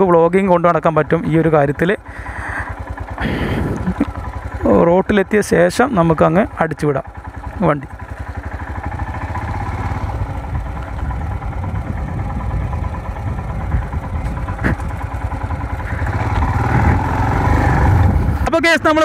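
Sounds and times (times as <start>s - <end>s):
motorcycle engine riding: 0.0s - 19.0s.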